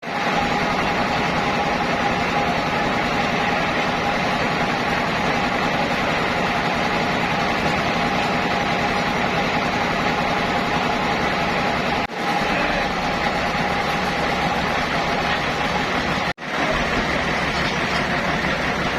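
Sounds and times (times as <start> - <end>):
sawmill machinery drone and whine: 0.1 - 18.9.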